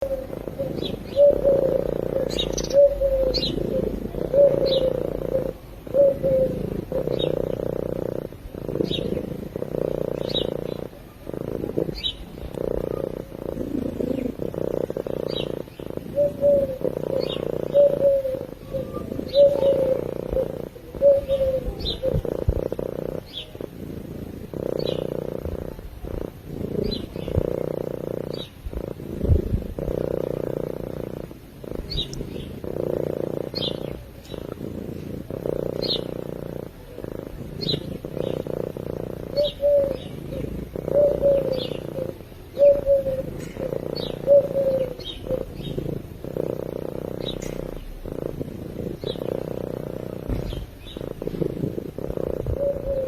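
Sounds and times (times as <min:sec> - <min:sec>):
low falling calls: 0:00.0 - 0:46.3, 0:46.9 - 0:53.0
birds chirping: 0:00.0 - 0:53.0
cat purring: 0:00.0 - 0:53.0.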